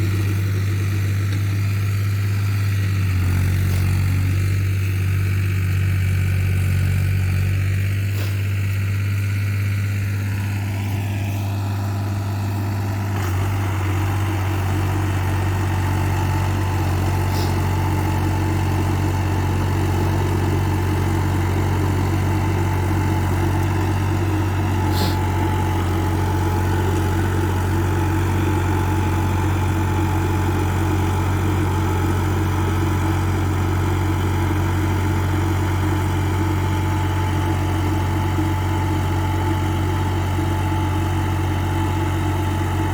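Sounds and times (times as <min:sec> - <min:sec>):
diesel tractor engine idling: 0:00.0 - 0:42.9.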